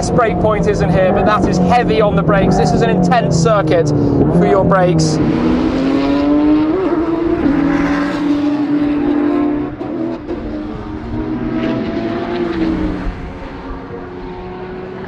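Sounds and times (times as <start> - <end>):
car engine accelerating: 0.0 - 15.0
car engine throttle blips: 0.0 - 15.0.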